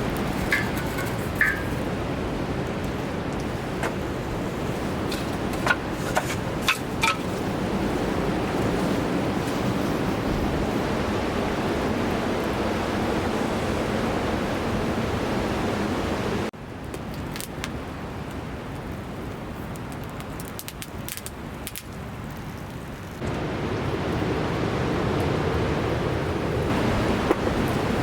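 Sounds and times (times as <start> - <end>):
campfire crackling: 0.0 - 15.6, 16.7 - 28.0
rushing water: 0.0 - 20.4, 21.4 - 28.0.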